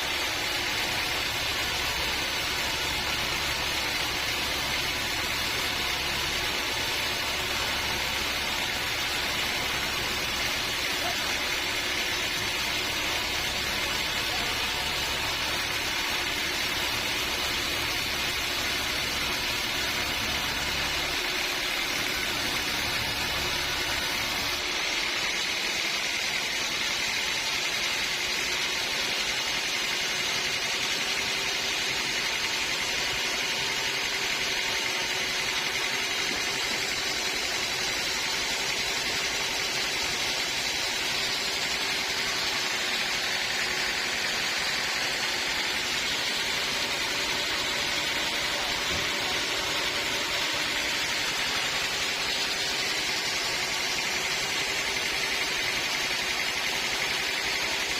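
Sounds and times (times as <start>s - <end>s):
sawmill machinery whining: 0.0s - 57.9s.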